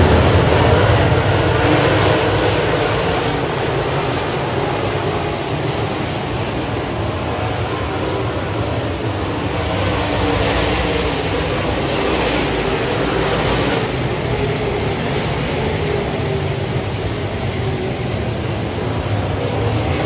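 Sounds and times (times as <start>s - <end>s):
race car engines roaring past: 0.0s - 20.0s.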